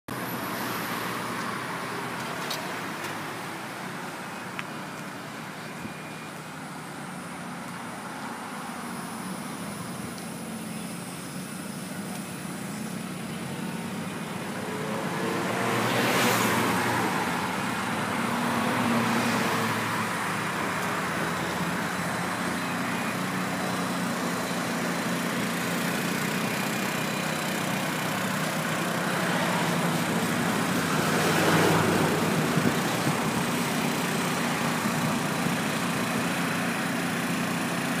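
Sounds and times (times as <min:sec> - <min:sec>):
road traffic hum: 0:00.1 - 0:38.0
vehicles passing: 0:00.1 - 0:38.0.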